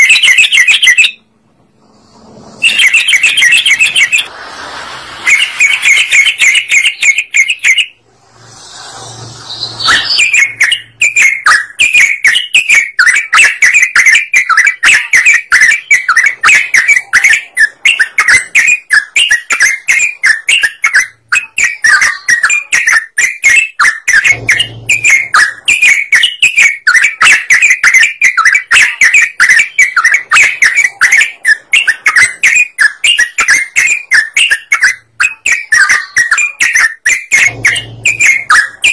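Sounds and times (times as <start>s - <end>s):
bulbul singing chirping notes: 2.6s - 4.3s, 5.2s - 8.4s, 9.4s - 38.9s.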